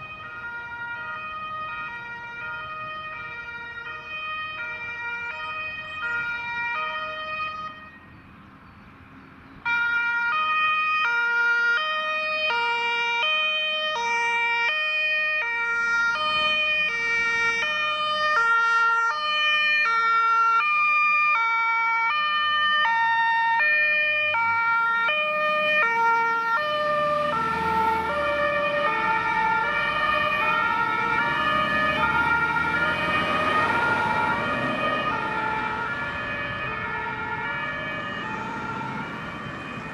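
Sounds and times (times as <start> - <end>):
two-tone siren: 0.0 - 8.1, 9.6 - 39.9
fire engine and road noise: 0.0 - 39.9.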